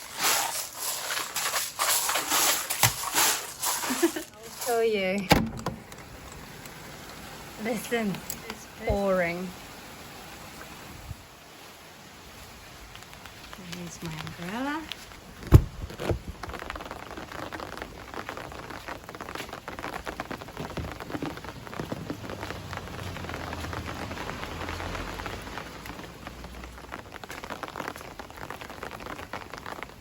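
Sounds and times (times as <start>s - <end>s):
rain stick patter: 0.0s - 9.5s, 12.8s - 30.0s.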